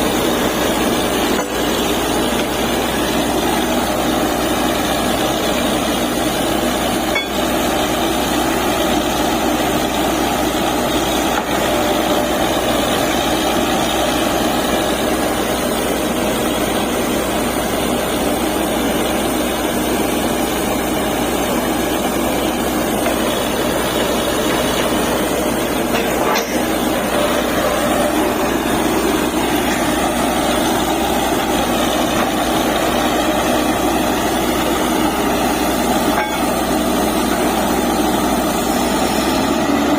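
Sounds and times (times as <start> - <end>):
compressor noise: 0.0 - 39.9
truck engine running: 0.0 - 39.9.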